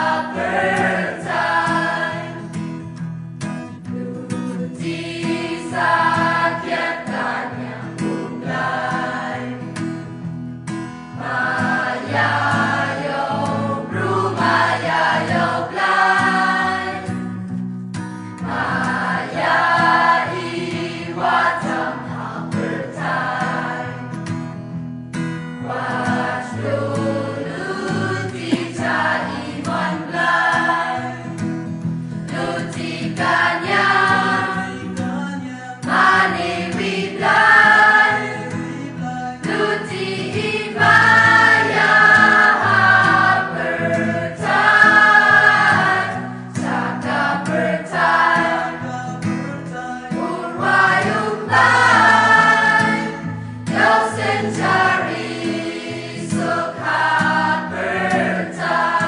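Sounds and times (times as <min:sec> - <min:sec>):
mixed choir singing a hymn: 0:00.0 - 0:02.8, 0:03.9 - 0:10.2, 0:11.1 - 0:17.4, 0:18.4 - 0:24.3, 0:25.6 - 0:31.5, 0:32.1 - 0:59.0.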